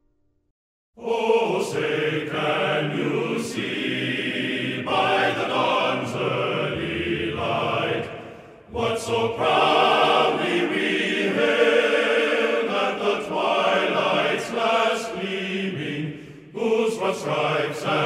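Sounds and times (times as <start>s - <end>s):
choir singing sustained chords: 1.0s - 18.0s.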